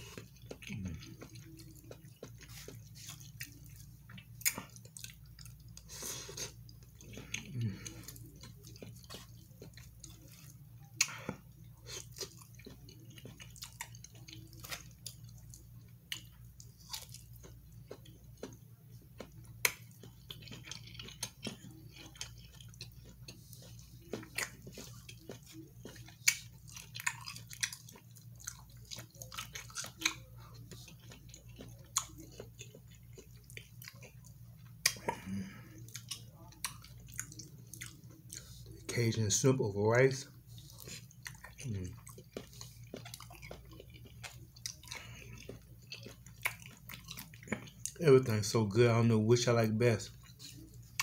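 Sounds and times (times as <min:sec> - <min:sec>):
low steady hum: 0:00.0 - 0:51.0
man chewing close to microphone: 0:00.0 - 0:51.0.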